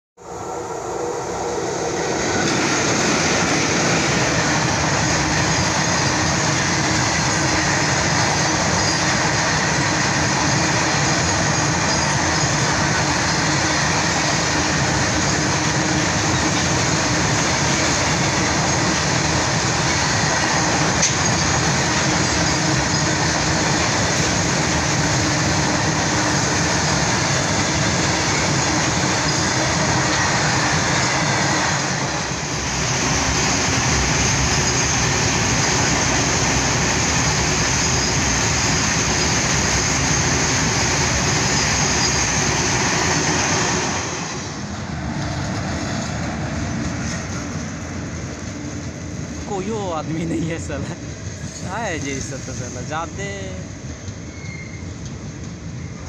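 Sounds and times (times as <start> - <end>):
train wheels rumbling on rails: 0.4 - 56.0.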